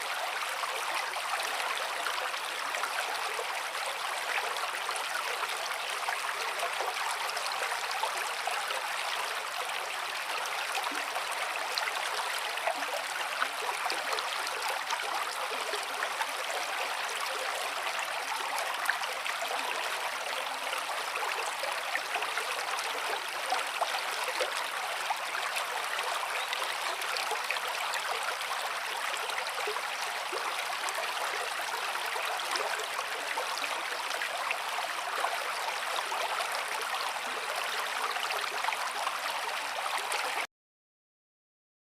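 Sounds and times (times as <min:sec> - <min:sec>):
stream babbling: 0:00.0 - 0:40.4.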